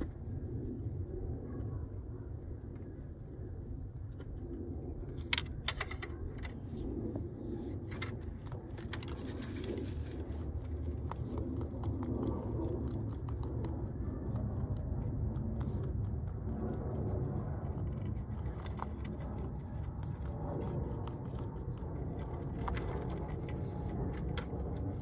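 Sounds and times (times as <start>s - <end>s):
rabbit chewing and crunching food: 0.0s - 25.0s
steady low rumble: 0.0s - 25.0s.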